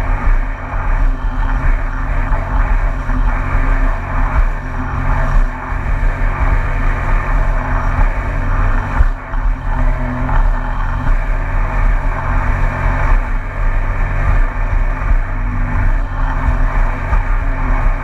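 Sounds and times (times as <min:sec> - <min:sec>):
watercraft engine running: 0:00.0 - 0:18.0.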